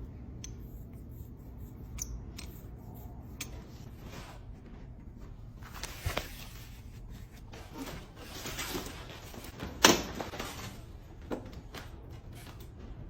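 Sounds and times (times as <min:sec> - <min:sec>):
rustling and handling noises: 0:00.0 - 0:13.0.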